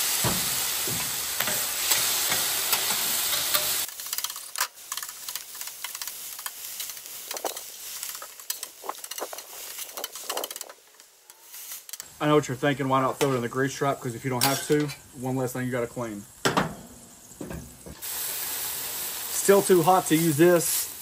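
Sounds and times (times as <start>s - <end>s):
water sizzling on hot griddle: 0.0s - 21.0s.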